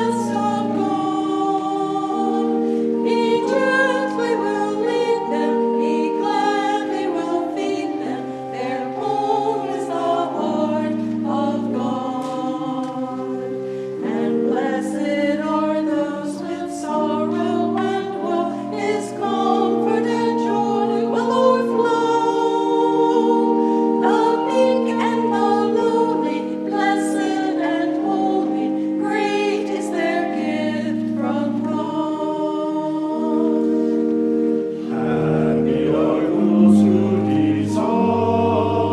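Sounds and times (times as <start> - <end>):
choir singing a hymn: 0.0 - 38.9.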